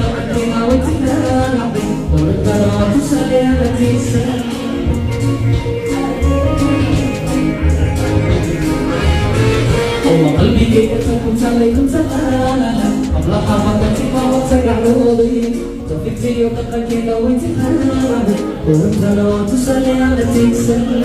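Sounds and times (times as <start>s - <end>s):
loud amplified music with singing: 0.0s - 21.0s.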